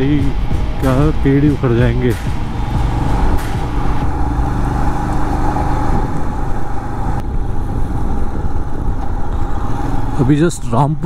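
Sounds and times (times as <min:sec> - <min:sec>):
motorcycle running: 0:00.0 - 0:11.0
wind rushing over microphone: 0:00.0 - 0:11.0.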